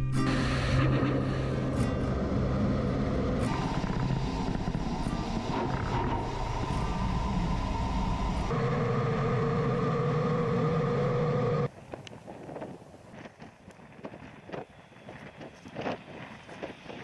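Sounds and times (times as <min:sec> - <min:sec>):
faint wind noise: 0:00.0 - 0:17.0
jet engine and airflow noise: 0:00.0 - 0:17.0.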